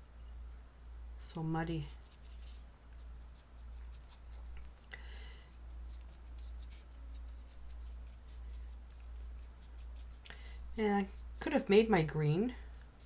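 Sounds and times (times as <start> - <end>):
steady low hum: 0.0 - 13.0
paintbrush strokes on canvas: 1.6 - 13.0.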